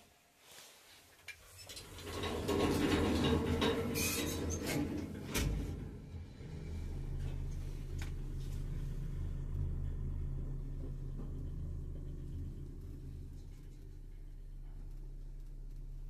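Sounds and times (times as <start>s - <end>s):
lift motor low hum: 1.7s - 16.0s
lift doors rattling metallically: 1.8s - 14.8s.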